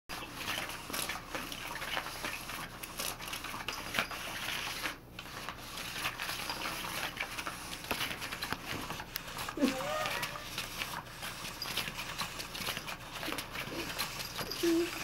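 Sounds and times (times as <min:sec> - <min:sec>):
faint motor hum: 0:00.2 - 0:15.0.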